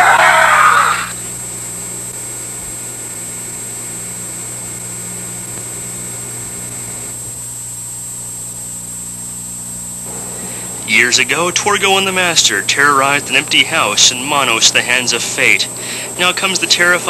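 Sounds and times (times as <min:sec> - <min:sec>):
electrical hum and tape hiss: 0:00.0 - 0:17.0.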